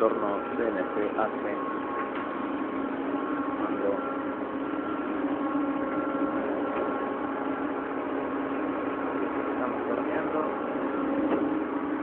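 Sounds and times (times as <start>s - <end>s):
high whining tones: 0.0s - 12.0s
lathe machine hum: 0.0s - 12.0s.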